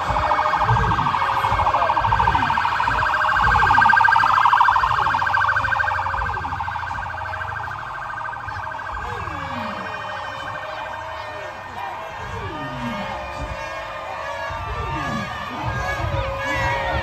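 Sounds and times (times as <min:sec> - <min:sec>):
fast-warbling siren: 0:00.0 - 0:17.0.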